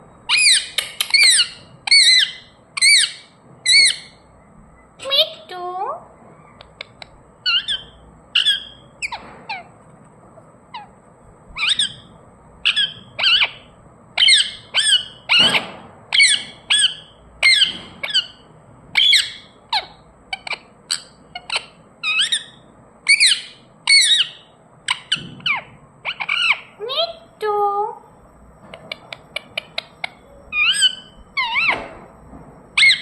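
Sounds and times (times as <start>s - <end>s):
parrot calling: 0.3s - 4.2s, 5.0s - 9.8s, 10.7s - 11.0s, 11.6s - 27.9s, 28.7s - 32.1s, 32.8s - 33.0s.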